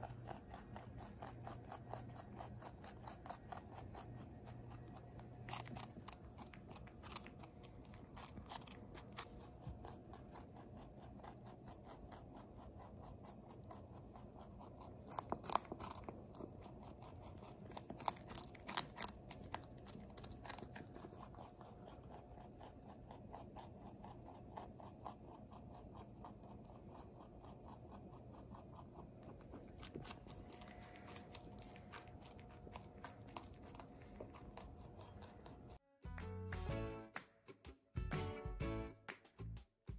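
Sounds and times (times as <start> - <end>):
rabbit crunching carrots: 0.0 - 35.8.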